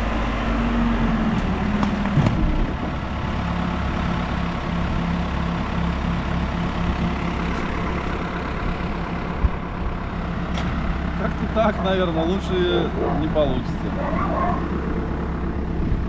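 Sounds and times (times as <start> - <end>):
diesel engine running at low revs: 0.0 - 16.0.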